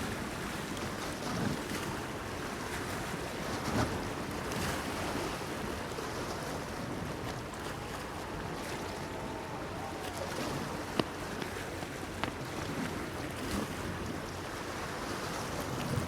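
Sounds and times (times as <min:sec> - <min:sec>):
water lapping against a pier: 0:00.0 - 0:16.0
wind: 0:00.0 - 0:16.0.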